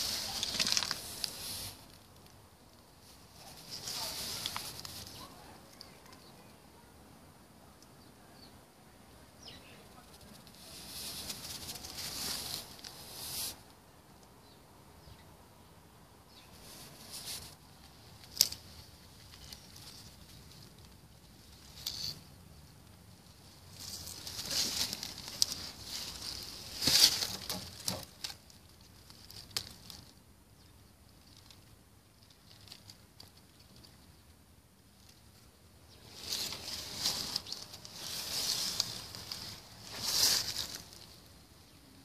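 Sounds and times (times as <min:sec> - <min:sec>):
rustling in leaf litter: 0:00.0 - 0:06.4, 0:10.0 - 0:13.7, 0:16.4 - 0:30.2, 0:31.1 - 0:34.2, 0:34.9 - 0:41.9.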